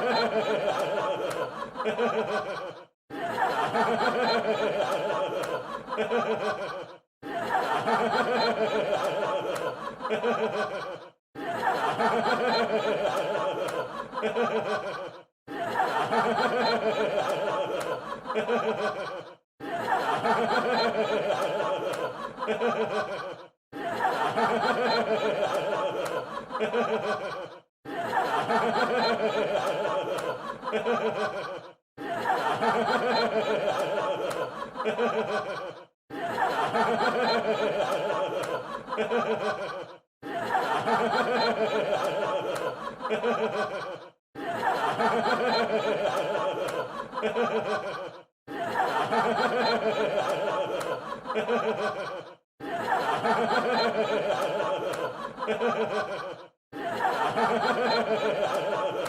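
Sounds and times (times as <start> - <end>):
audience laughter: 0.0 - 59.0.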